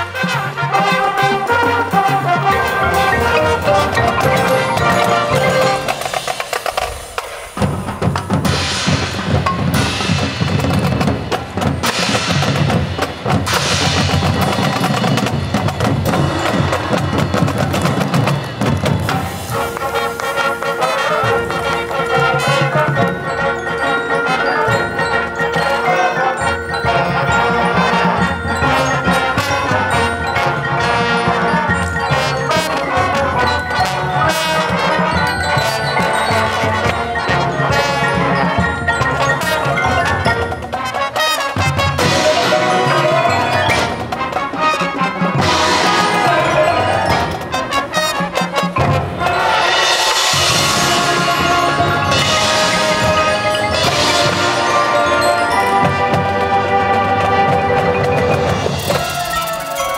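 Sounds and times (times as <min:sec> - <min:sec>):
marching band drums: 0:00.0 - 0:59.9.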